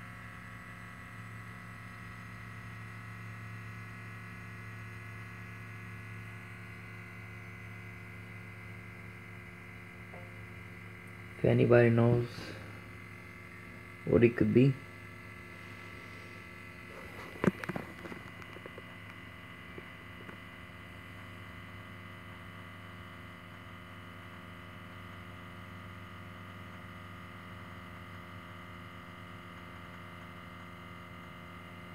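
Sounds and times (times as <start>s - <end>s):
electric pump hum: 0.0s - 31.9s.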